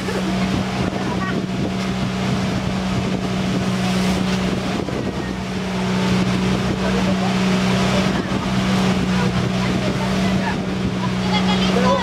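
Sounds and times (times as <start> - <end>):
boat engine droning: 0.0 - 12.0
wind buffeting microphone: 0.0 - 12.0.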